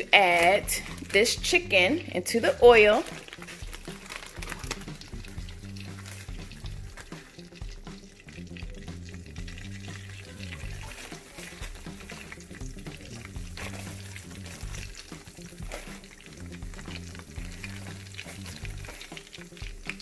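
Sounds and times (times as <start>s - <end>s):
background music with bass line: 0.0s - 20.0s
chicken frying in hot oil: 0.0s - 20.0s.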